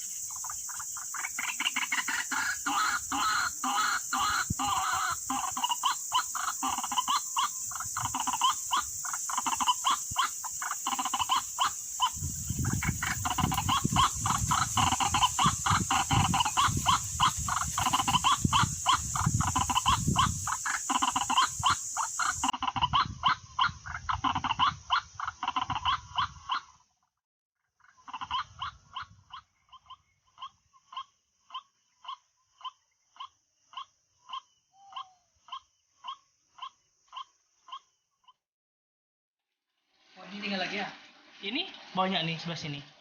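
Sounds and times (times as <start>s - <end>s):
bird harsh croaking calls: 0.0s - 26.8s, 27.7s - 38.4s.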